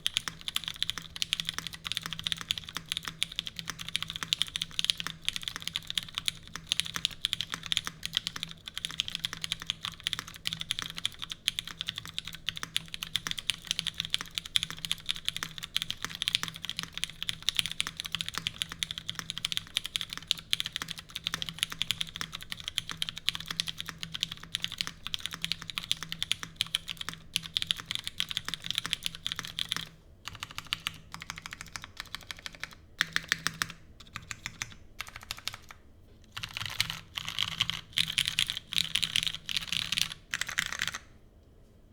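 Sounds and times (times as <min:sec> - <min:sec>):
mechanical keyboard typing: 0:00.0 - 0:41.1.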